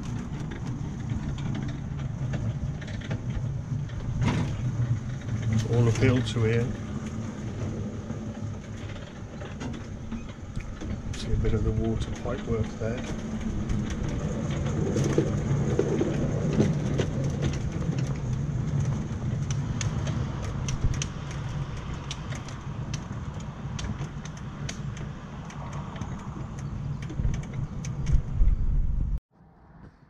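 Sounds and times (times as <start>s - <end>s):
locomotive motor and wheels hum: 0.0s - 29.2s.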